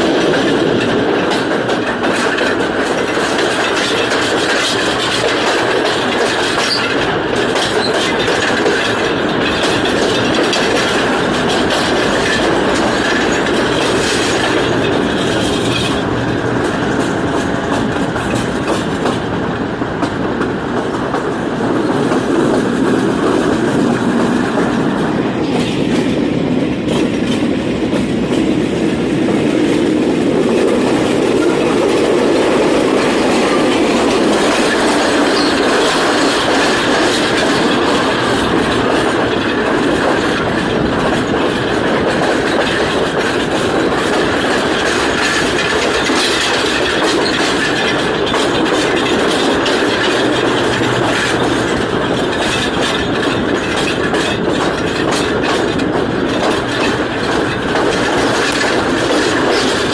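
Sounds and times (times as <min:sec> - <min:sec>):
train rumble: 0:00.0 - 0:59.9
train wheels clattering: 0:00.0 - 0:59.9.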